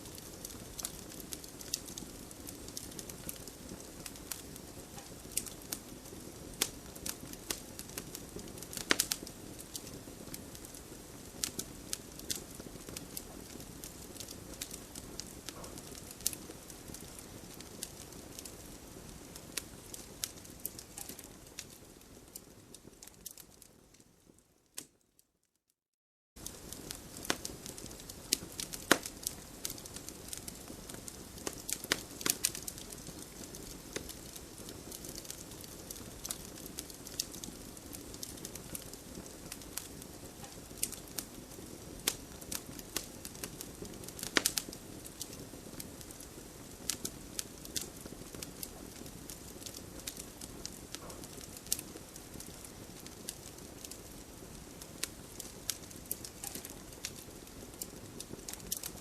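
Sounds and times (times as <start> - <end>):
soft hiss of flames: 0.0 - 25.2, 26.4 - 59.0
campfire pops and snaps: 0.2 - 10.8, 11.4 - 23.6, 26.4 - 59.0.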